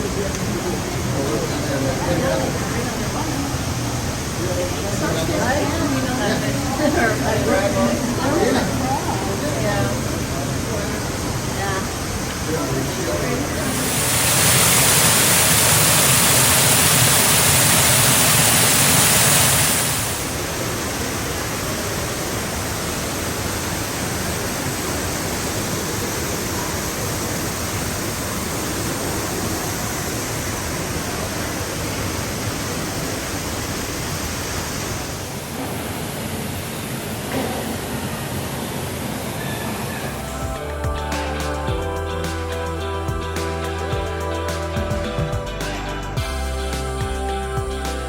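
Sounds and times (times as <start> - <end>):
rushing water: 0.0 - 41.7.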